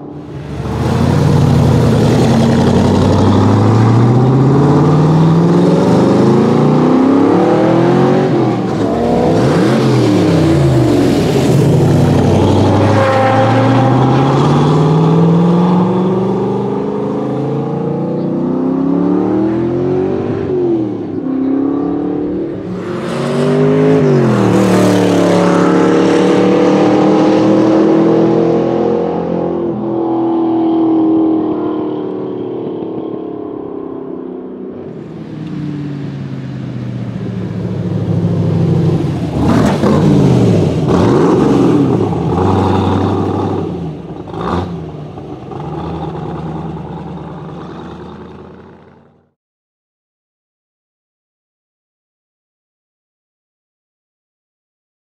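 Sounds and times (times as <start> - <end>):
car engine accelerating: 0.0 - 49.4.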